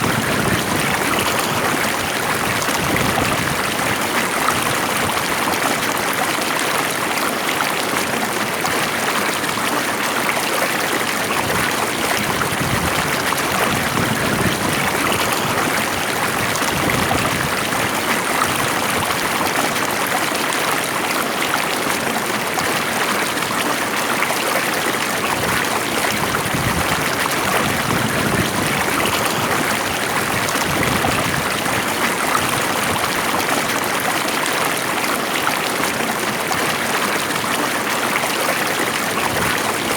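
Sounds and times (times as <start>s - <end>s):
water flowing over streambed: 0.0s - 39.9s.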